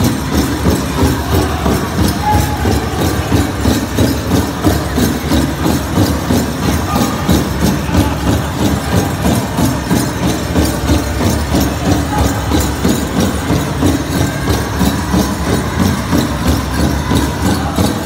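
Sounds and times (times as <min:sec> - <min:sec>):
large drum steady beat: 0:00.0 - 0:18.0.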